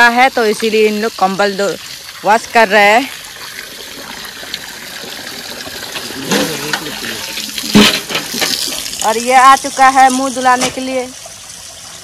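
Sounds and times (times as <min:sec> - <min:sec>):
water sloshing and splashing: 0:00.5 - 0:12.0.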